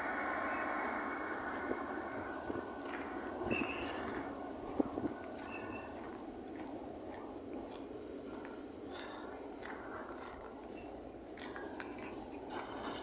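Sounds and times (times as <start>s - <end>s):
train wagons rumbling past: 0.0s - 8.3s, 10.4s - 13.0s.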